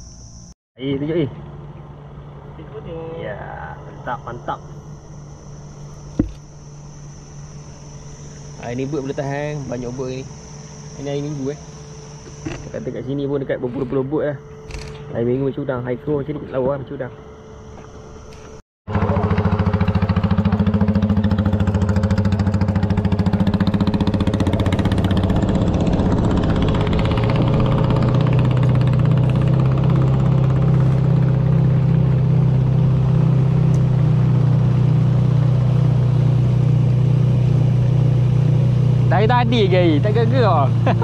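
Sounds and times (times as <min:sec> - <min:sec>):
outboard motor running: 0:01.0 - 0:41.0.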